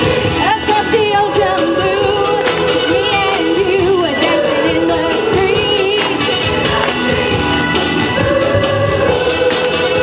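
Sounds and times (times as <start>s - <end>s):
choir singing: 0.0s - 10.0s.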